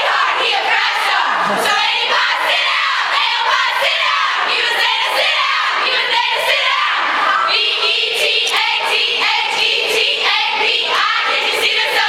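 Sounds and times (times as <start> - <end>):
women singing in chorus: 0.0 - 12.0.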